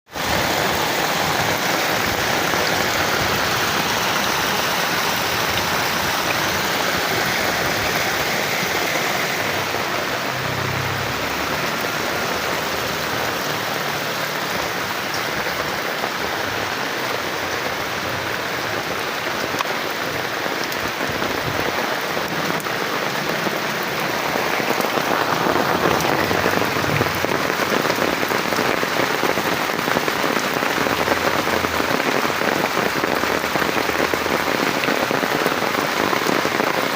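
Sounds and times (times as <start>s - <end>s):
steady rain pouring: 0.1s - 36.9s.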